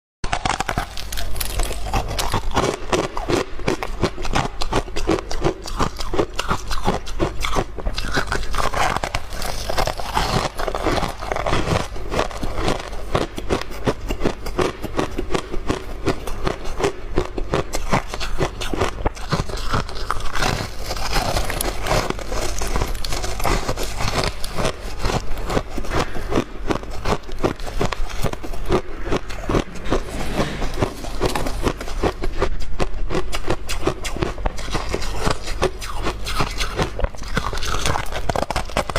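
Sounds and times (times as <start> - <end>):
ice being chewed: 0.2 - 38.9.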